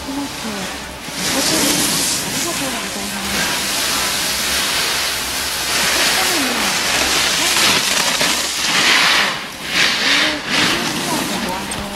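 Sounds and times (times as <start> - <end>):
snowboard scraping over snow: 0.1 - 11.9.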